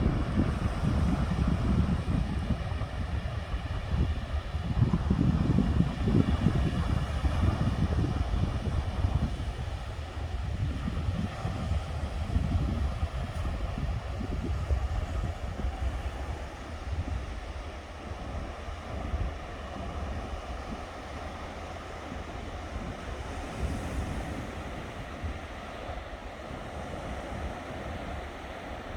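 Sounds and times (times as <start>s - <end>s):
sea waves washing onto beach: 0.0s - 28.9s
wind buffeting microphone: 0.0s - 28.9s.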